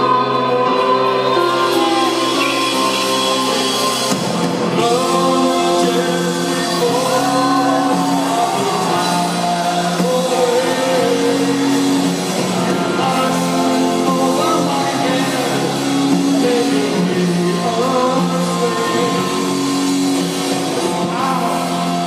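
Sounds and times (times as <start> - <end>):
live rock band: 0.0 - 22.0
person singing: 0.0 - 22.0.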